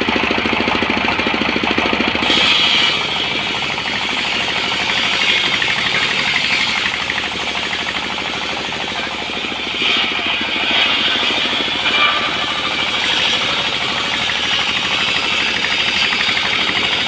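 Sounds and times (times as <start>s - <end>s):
harsh cutting noise: 0.0s - 17.0s
sawmill engine running: 0.0s - 17.0s.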